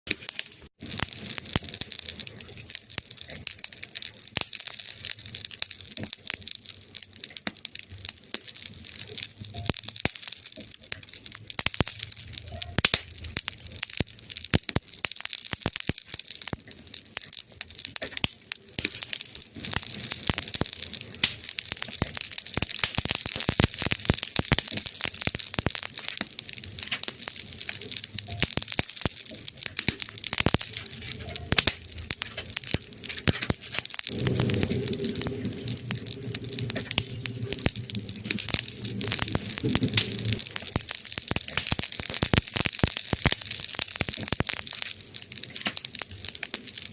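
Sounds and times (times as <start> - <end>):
burning wood crackling: 0.1 - 46.9.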